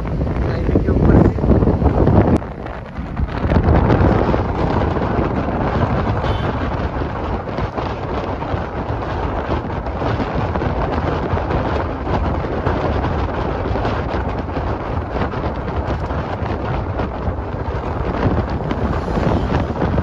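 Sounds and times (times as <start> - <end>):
bus rumbling on road: 0.0 - 20.0
wind buffeting microphone: 0.0 - 20.0.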